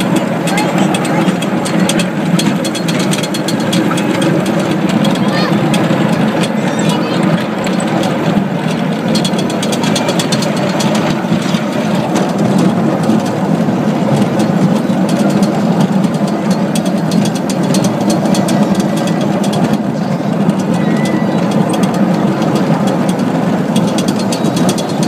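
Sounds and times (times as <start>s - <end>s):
rapid rattling clicks: 0.0s - 25.0s
wheels rumbling on rail: 0.0s - 25.0s.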